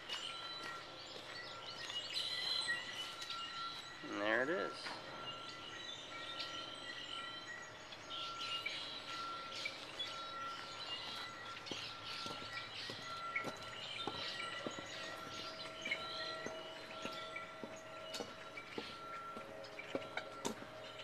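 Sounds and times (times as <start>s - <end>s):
birds chirping: 0.0s - 21.0s
outdoor background noise: 0.0s - 21.0s.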